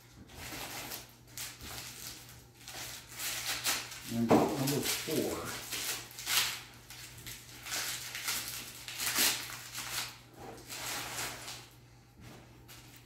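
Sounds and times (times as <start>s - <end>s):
packing paper rustling: 0.0s - 13.0s.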